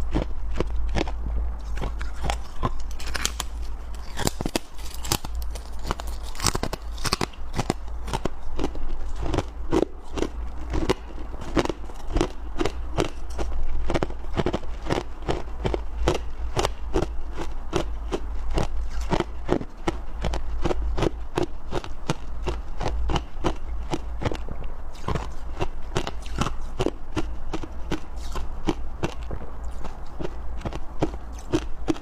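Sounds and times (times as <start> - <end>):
chewing crunchy frost: 0.0 - 32.0
steady low hum: 0.0 - 32.0.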